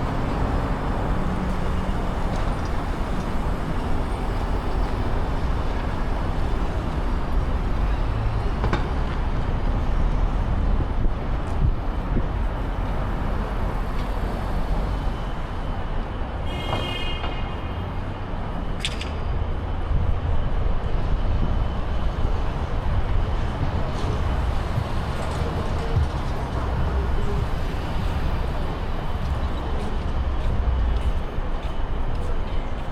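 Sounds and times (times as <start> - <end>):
passing vehicles rumbling: 0.0 - 16.5, 17.1 - 32.9.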